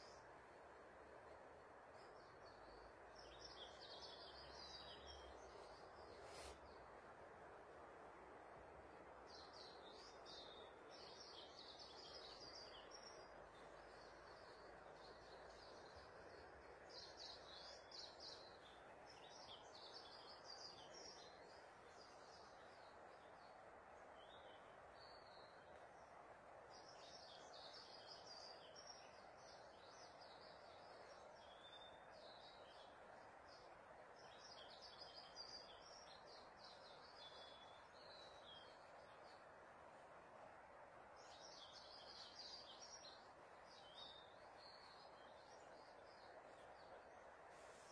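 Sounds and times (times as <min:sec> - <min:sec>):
faint birds chirping: 0:00.0 - 0:47.9
low background hiss: 0:00.0 - 0:47.9.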